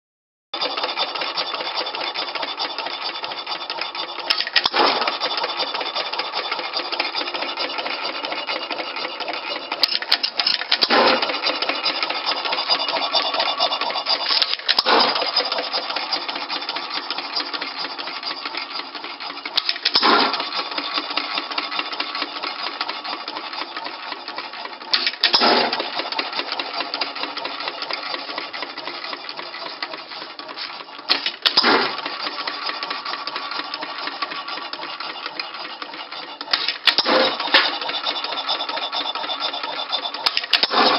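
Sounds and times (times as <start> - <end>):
hit-and-miss engine clattering: 0.6 - 40.9.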